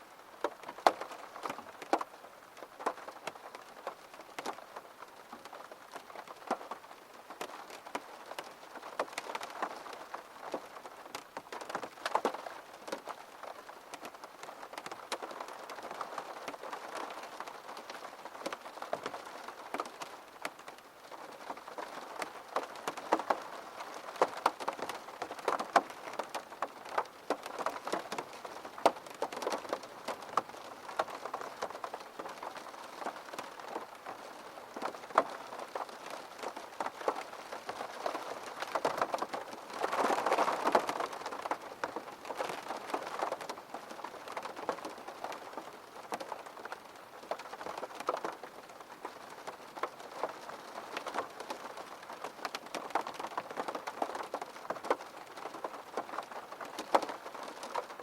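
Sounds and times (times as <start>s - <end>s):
gentle rain falling: 0.0s - 58.0s
raindrops ticking: 0.2s - 58.0s.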